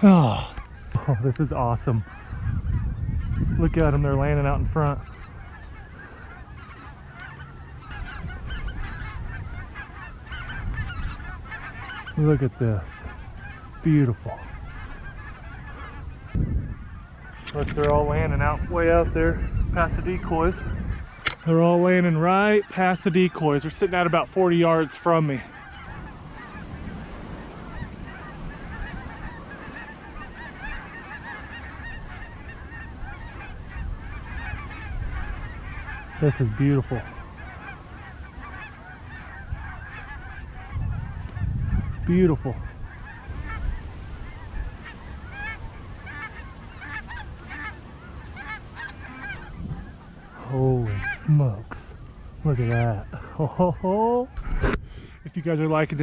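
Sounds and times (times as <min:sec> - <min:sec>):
wind rumble on microphone: 0:00.0 - 0:21.5, 0:25.7 - 0:53.4, 0:54.3 - 0:55.3
geese honking: 0:00.0 - 0:56.0.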